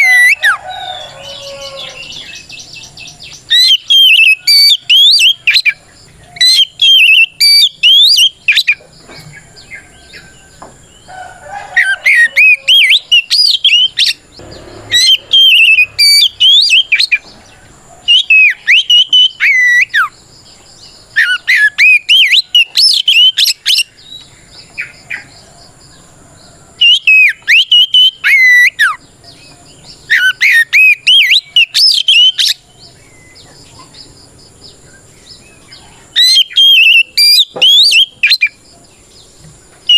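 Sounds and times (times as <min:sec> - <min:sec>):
bird singing whistled song: 0:00.0 - 0:08.8, 0:11.8 - 0:25.4, 0:26.8 - 0:38.6.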